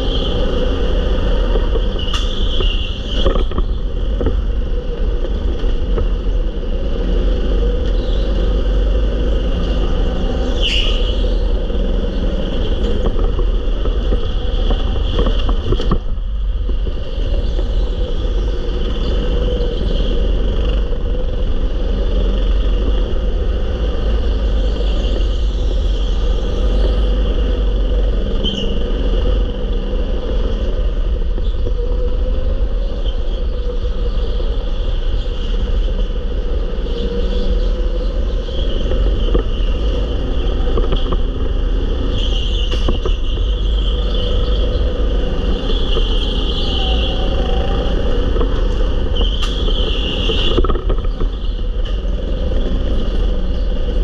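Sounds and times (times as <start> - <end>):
go-kart engine drone: 0.0 - 54.0
wind rumble on microphone: 0.0 - 54.0.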